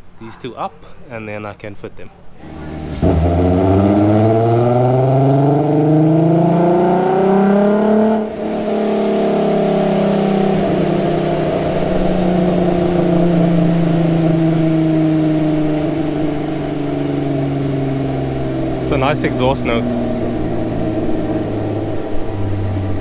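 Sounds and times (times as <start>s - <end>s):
car engine revving: 2.4s - 23.0s.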